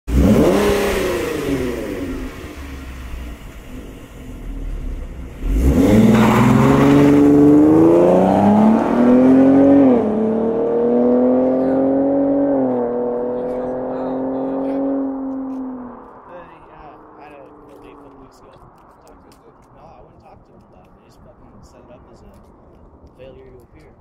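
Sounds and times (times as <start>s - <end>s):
car engine revving: 0.1s - 23.7s.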